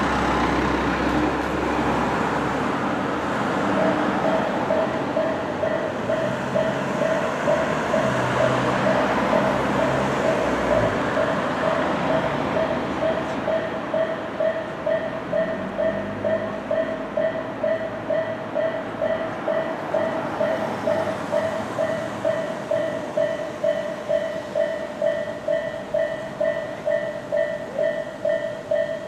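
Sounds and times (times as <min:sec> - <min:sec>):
road traffic passing: 0:00.0 - 0:29.0
crossing warning bell clanging: 0:02.6 - 0:29.0.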